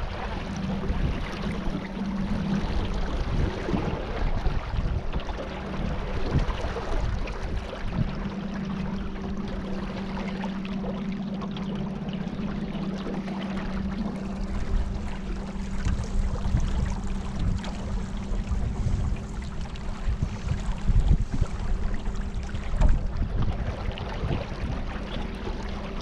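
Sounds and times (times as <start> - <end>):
wind noise on microphone: 0.0 - 10.1, 13.8 - 26.0
boat motor humming: 0.0 - 26.0
water splashing: 0.0 - 26.0.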